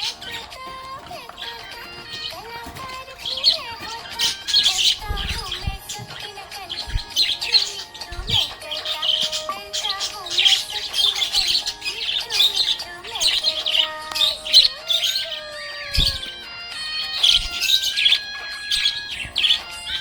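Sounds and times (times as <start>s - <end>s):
budgerigar chirping and warbling: 0.0s - 20.0s.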